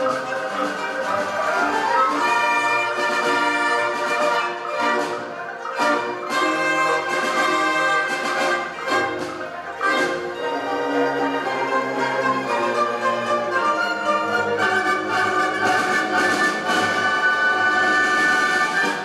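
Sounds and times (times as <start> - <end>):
orchestra playing: 0.0 - 19.0.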